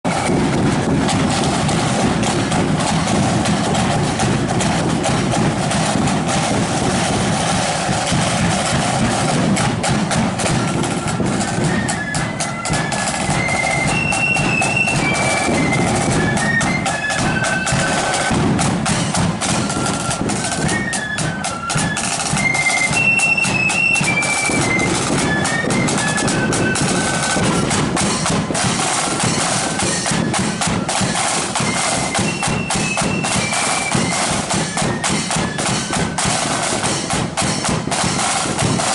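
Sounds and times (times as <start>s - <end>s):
snare drum rolls: 0.0s - 38.9s
flutes playing a high tune: 0.1s - 38.9s.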